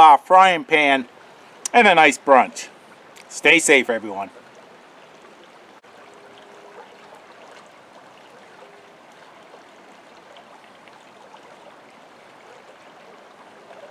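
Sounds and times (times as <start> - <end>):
brook running over rocks: 0.0 - 13.9.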